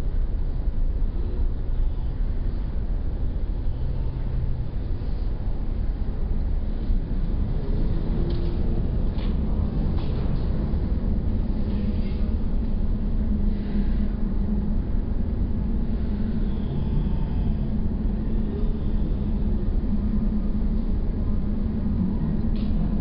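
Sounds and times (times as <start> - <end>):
train rumbling inside carriage: 0.0 - 23.0.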